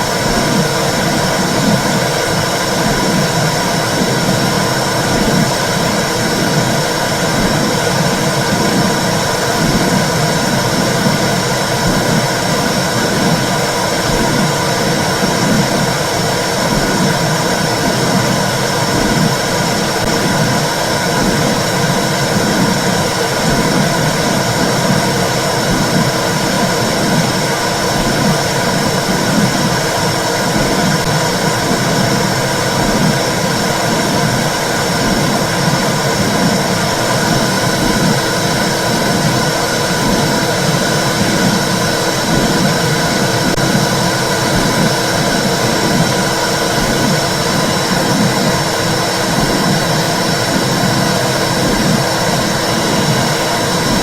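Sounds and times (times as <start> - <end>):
low throb: 0.0 - 54.0.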